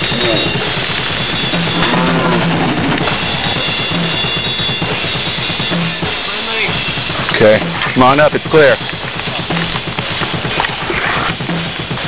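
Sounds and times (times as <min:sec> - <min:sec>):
fast drum kit beat: 0:00.0 - 0:12.0
rock background music: 0:00.0 - 0:12.0.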